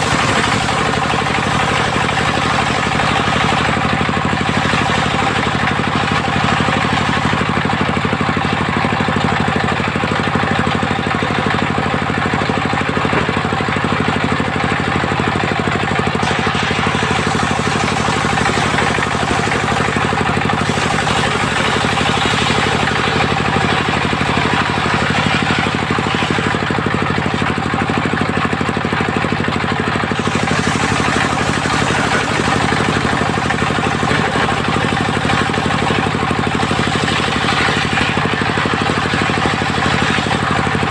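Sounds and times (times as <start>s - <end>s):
circular sawmill cutting timber: 0.0s - 40.9s.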